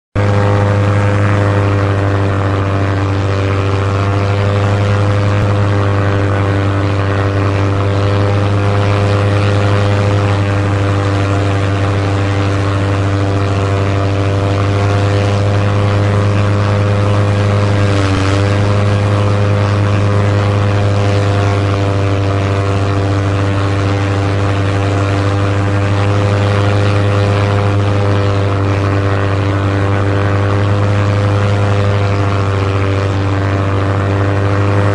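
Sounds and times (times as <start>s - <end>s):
propeller airplane engine droning: 0.1s - 34.9s.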